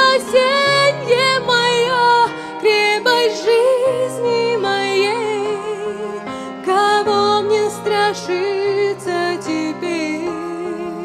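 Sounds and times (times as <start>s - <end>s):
instrumental backing of held chords: 0.0s - 11.0s
woman singing into a microphone: 0.0s - 11.0s.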